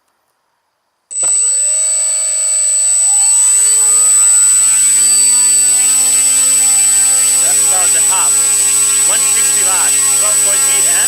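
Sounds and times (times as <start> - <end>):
electric motor and propeller whine: 1.1 - 11.0.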